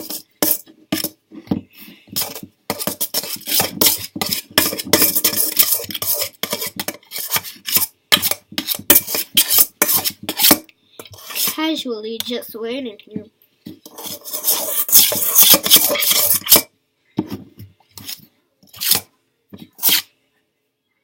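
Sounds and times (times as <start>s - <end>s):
utensil stirring slime in bowl: 0.0s - 12.4s, 13.7s - 20.1s.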